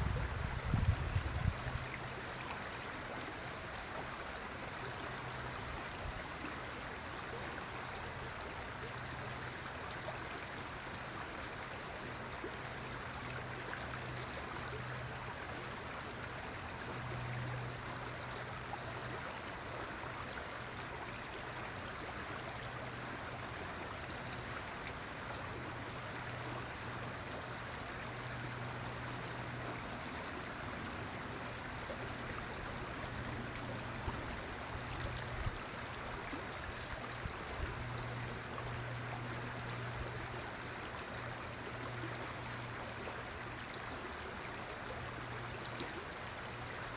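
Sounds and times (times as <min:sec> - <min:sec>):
river flowing: 0:00.0 - 0:46.9.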